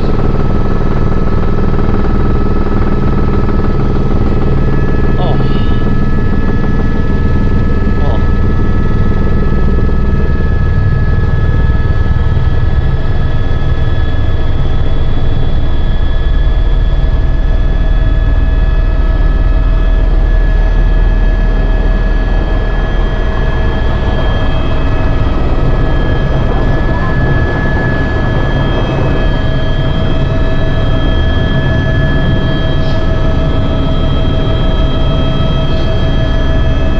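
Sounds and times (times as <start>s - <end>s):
helicopter drone: 0.0s - 36.9s.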